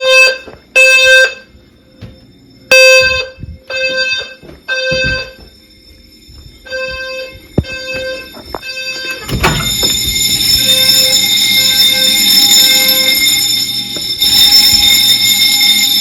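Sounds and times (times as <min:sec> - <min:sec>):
fire alarm horn blasts: 0:00.0 - 0:16.0.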